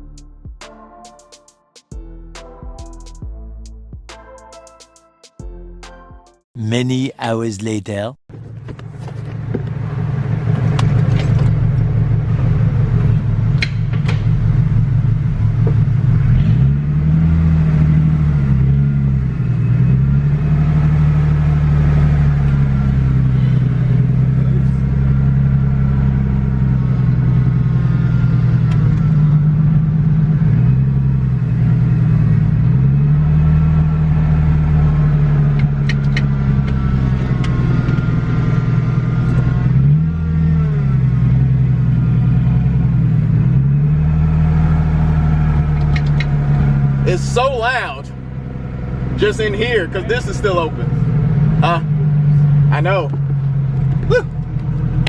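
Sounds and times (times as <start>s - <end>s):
car engine revving: 8.4s - 55.0s.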